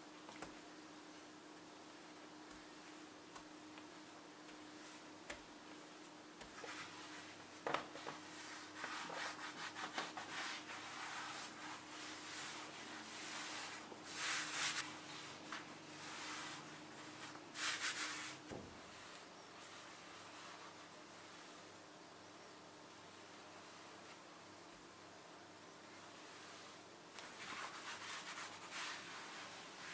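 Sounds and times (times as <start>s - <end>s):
gloved hands rubbing pastry dough: 0.5s - 21.6s, 26.0s - 29.9s.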